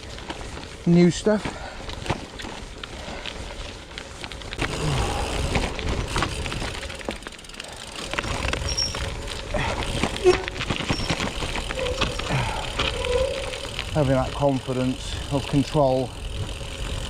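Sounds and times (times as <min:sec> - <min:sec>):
bike rattling and knocking: 0:00.0 - 0:17.0
tyres crunching on gravel: 0:00.0 - 0:17.0.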